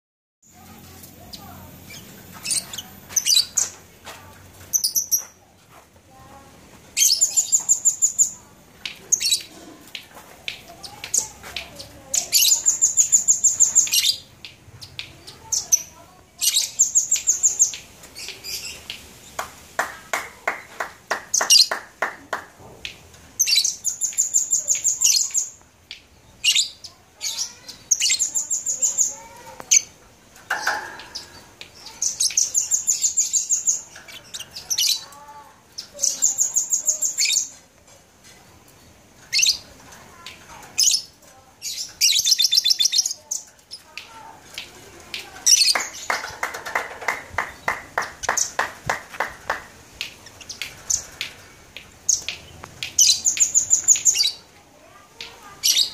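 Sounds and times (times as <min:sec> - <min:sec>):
lovebirds chirping trills: 0:00.5 - 0:04.0, 0:04.6 - 0:05.4, 0:06.2 - 0:19.9, 0:23.4 - 0:37.6, 0:38.3 - 0:55.9.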